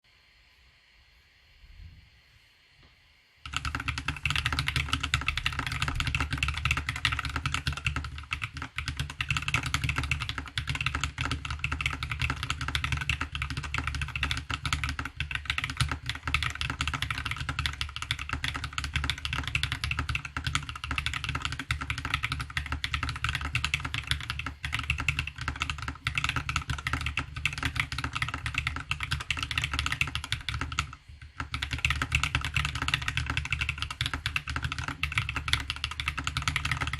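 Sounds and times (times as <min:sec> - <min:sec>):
fast typing on mechanical keyboard: 0:03.5 - 0:36.9.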